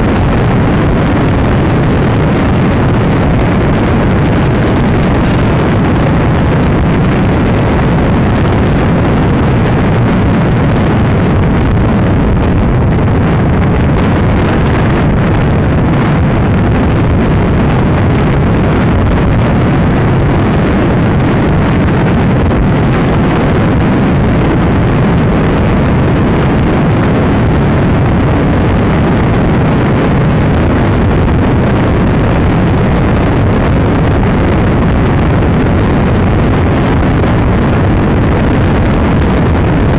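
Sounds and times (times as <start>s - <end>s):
motorbike engine at high speed: 0.0s - 39.9s
wind buffeting on microphone: 0.0s - 39.9s.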